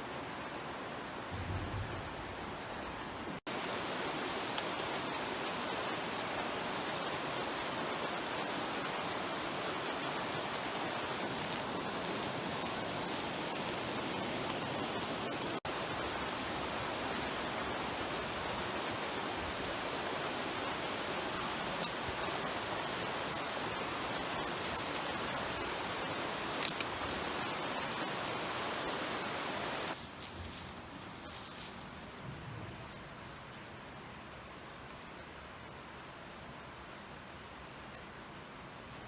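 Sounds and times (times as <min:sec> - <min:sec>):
creek rushing: 0:00.0 - 0:39.0.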